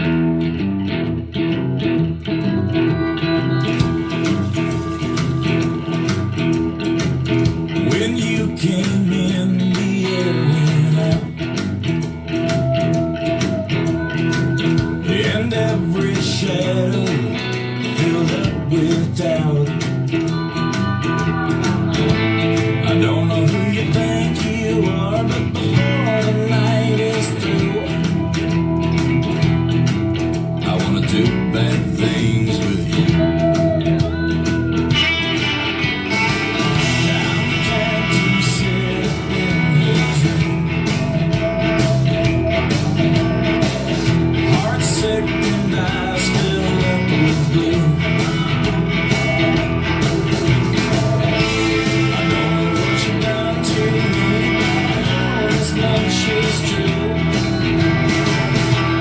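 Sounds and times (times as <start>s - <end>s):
rock song with electric guitar: 0.0s - 59.0s.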